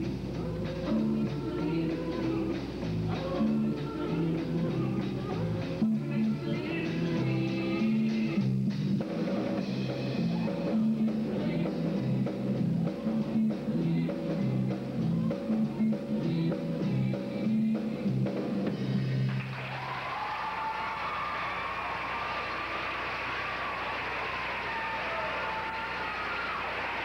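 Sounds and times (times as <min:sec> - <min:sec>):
live band with drum kit: 0:00.0 - 0:22.6.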